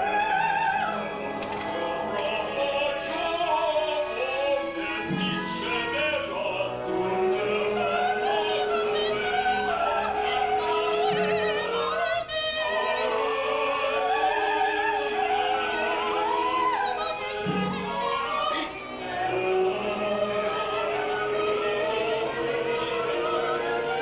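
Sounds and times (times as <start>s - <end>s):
opera singers in ensemble: 0.0s - 24.0s
orchestra playing: 0.0s - 24.0s.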